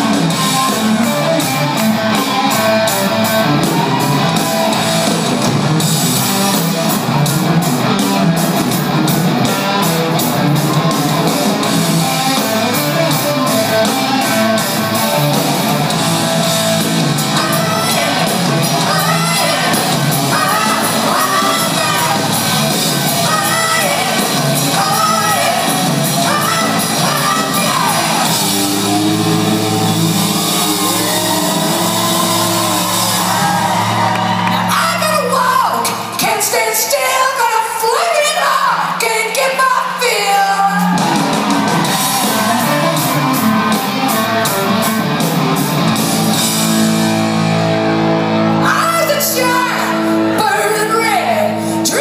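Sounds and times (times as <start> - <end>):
live rock band: 0.0 - 52.0.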